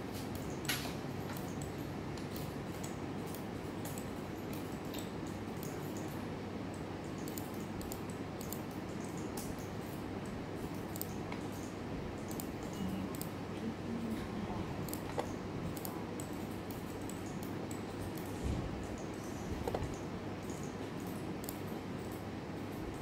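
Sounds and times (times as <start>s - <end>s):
low room hum: 0.0s - 23.0s
mouse and keyboard clicks: 0.2s - 9.8s, 10.7s - 13.4s, 14.8s - 22.2s.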